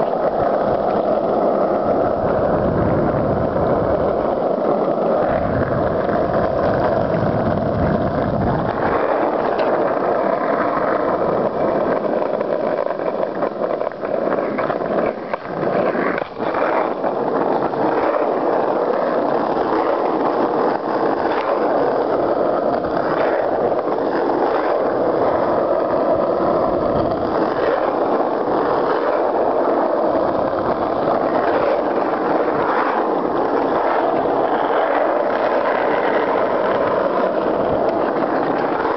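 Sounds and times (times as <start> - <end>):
wheels rolling on asphalt: 0.0 - 38.9.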